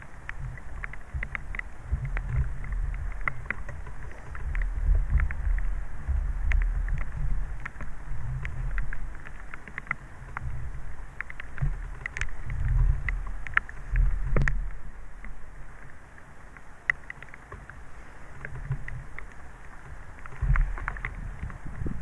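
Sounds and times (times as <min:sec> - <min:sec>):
light ticks and taps: 0:00.0 - 0:22.0
wind rumbling on microphone: 0:00.0 - 0:22.0.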